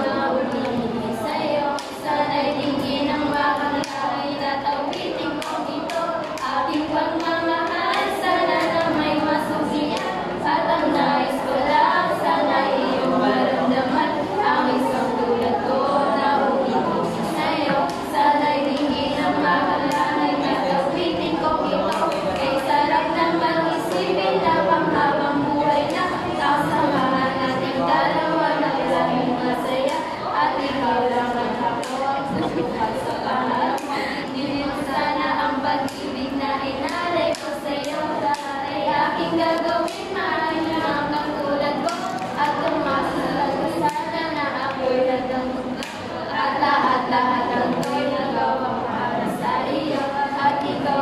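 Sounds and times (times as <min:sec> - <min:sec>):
girls rapping and chanting: 0:00.0 - 0:51.0.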